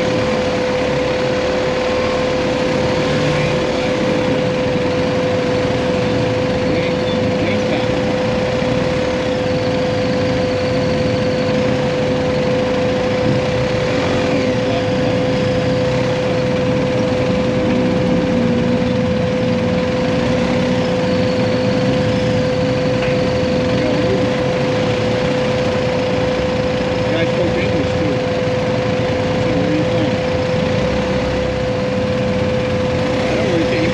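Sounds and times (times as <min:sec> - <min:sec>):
motorcycle engine running: 0:00.0 - 0:33.9
road and wind noise: 0:00.0 - 0:33.9
steady tone: 0:00.0 - 0:33.9.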